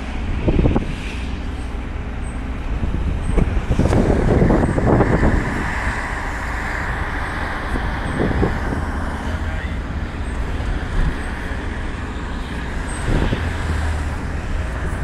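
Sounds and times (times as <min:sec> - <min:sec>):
car driving rumble: 0:00.0 - 0:15.0
road and wind noise: 0:00.0 - 0:15.0.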